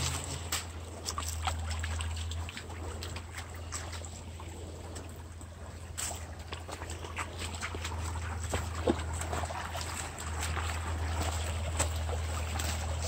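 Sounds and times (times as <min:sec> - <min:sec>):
brook trickling over stones: 0:00.0 - 0:13.0.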